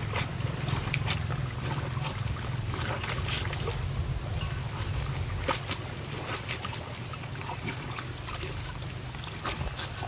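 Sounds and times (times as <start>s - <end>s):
low rumble: 0.0s - 9.8s
muddy water sloshing and splashing: 0.0s - 10.0s.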